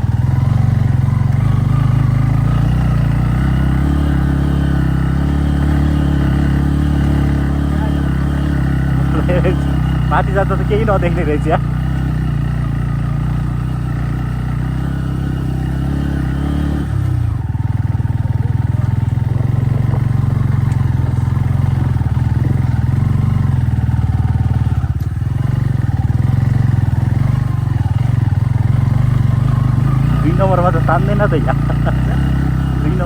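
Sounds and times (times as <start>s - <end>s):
motorcycle engine labouring: 0.0s - 33.0s.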